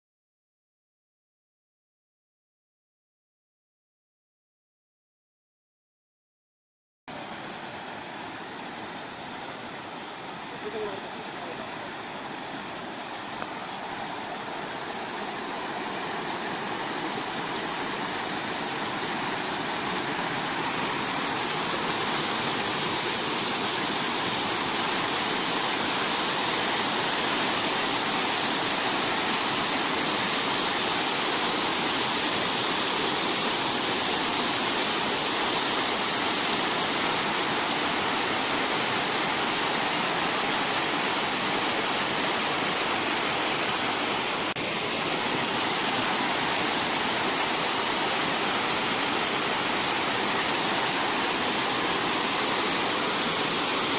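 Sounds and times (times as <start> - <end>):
waterfall rushing: 7.1 - 53.9.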